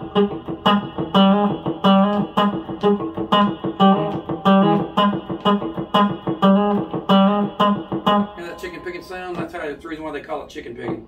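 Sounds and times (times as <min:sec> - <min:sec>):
electric guitar chord stabs: 0:00.0 - 0:09.8.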